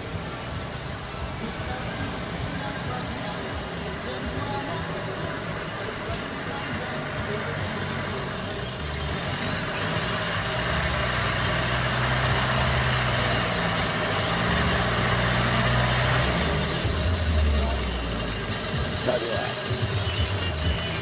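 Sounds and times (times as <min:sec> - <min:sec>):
mini train engine droning: 0:00.0 - 0:21.0.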